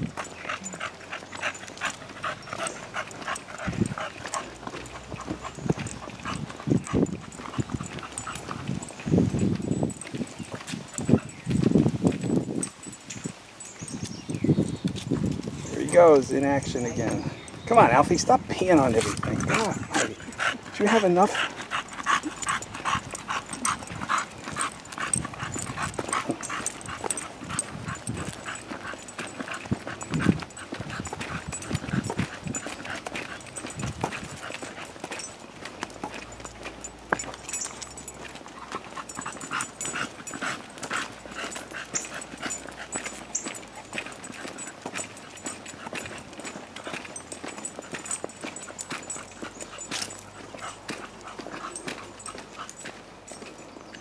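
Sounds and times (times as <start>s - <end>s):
dog paws clicking on pavement: 0.0s - 54.0s.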